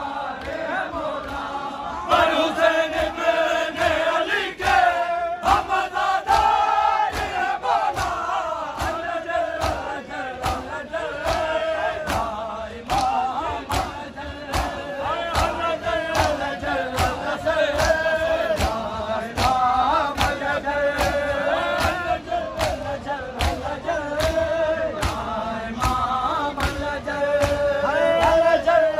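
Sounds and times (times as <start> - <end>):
crowd of men chanting in unison: 0.0 - 28.9.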